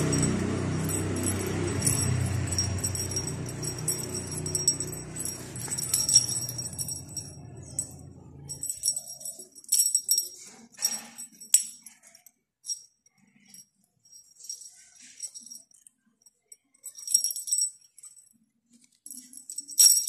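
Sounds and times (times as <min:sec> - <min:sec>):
small bell jingling: 0:00.0 - 0:18.4, 0:19.0 - 0:20.0.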